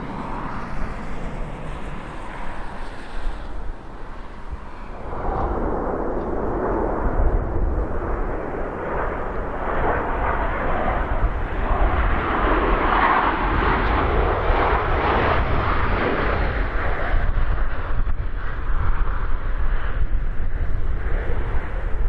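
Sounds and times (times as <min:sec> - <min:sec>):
aircraft engine noise: 0:00.0 - 0:22.0
wind rumble on microphone: 0:00.0 - 0:22.0.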